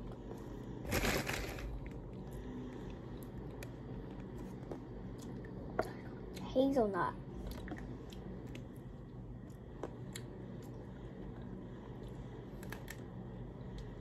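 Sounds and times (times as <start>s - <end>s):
steady low hum: 0.0s - 14.0s
person chewing ice cream bar: 0.9s - 6.4s, 7.4s - 13.1s.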